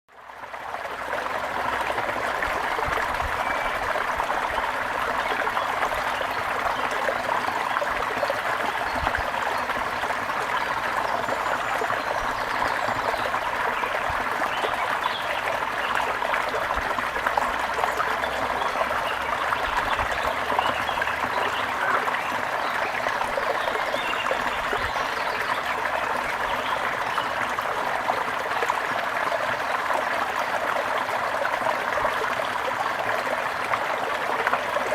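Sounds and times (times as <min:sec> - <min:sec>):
stream water rushing: 0:00.2 - 0:34.9.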